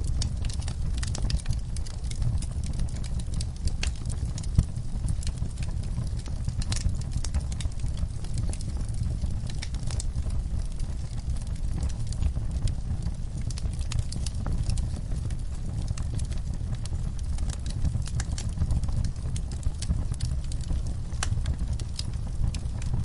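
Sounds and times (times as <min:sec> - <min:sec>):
fire flames rumbling: 0:00.0 - 0:23.0
logs crackling and popping: 0:00.0 - 0:23.0.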